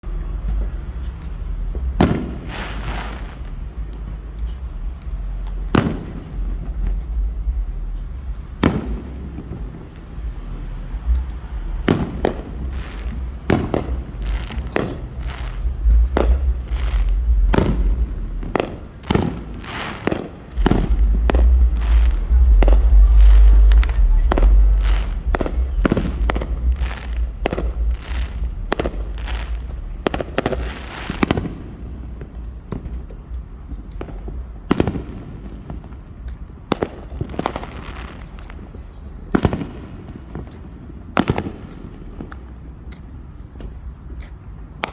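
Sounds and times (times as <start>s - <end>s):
deep rumble: 0.0s - 37.7s
fireworks bangs: 0.0s - 44.9s.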